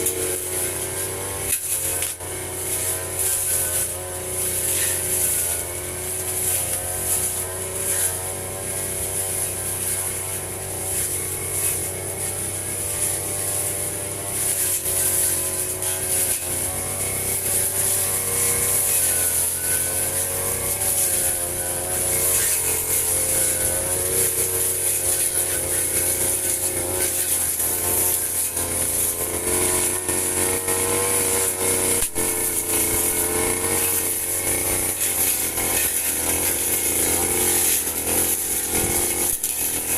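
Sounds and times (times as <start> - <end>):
brush cutter engine: 0.0 - 39.9.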